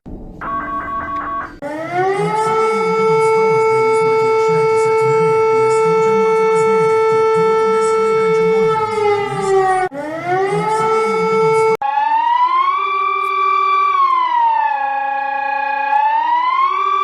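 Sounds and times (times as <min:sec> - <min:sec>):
warning siren winding up and down: 0:00.5 - 0:17.0.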